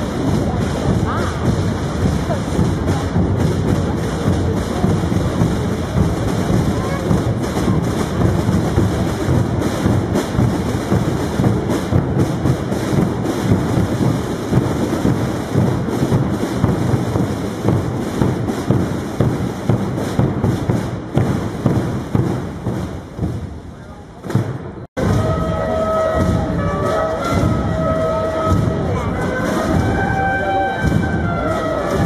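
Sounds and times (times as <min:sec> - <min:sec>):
drums beating in rolling rhythm: 0:00.0 - 0:32.0.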